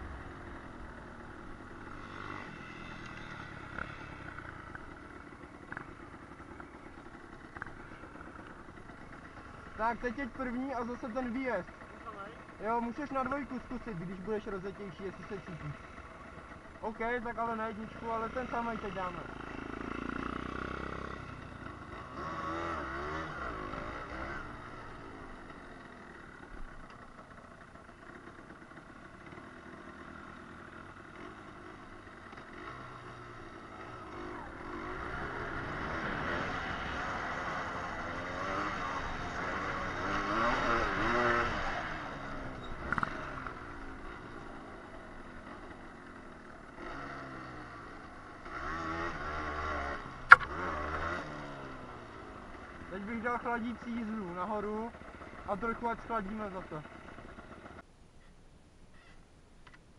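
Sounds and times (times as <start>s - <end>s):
motorcycle engine revving: 0.0s - 57.8s.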